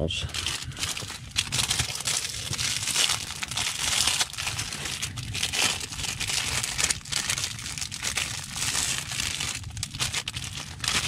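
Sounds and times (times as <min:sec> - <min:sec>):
plastic wrapping crinkling: 0:00.2 - 0:11.0.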